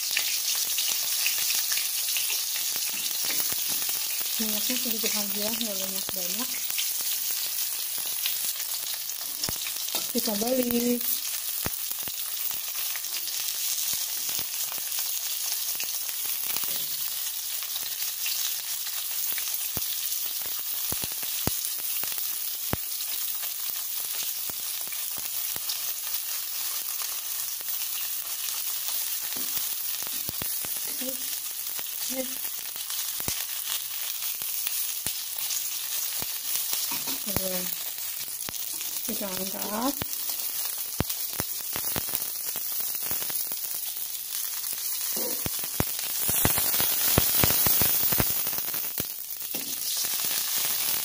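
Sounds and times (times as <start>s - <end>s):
oil crackling and popping: 0.0s - 51.0s
tofu sizzling in oil: 0.0s - 51.0s.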